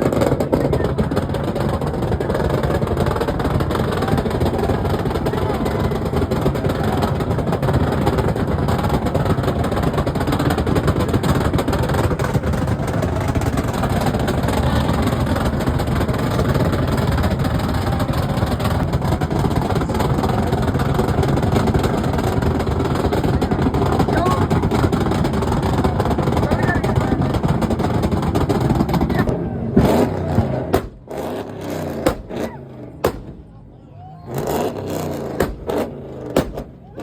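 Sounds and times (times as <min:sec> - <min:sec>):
car engine running loudly: 0:00.0 - 0:37.0.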